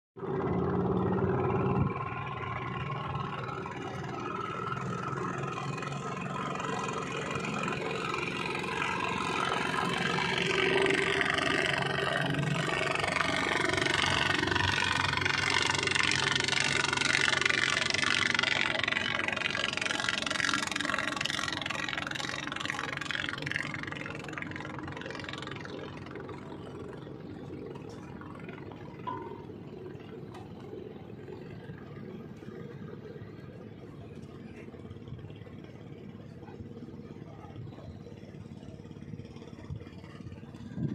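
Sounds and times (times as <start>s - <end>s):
speedboat engine passing: 0.2s - 40.9s.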